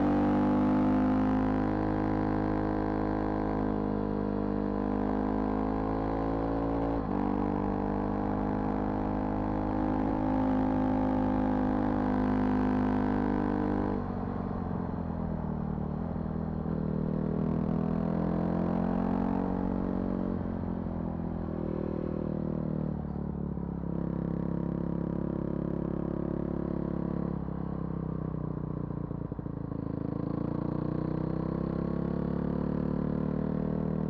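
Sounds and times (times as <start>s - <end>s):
vehicle engine while driving: 0.0s - 34.0s.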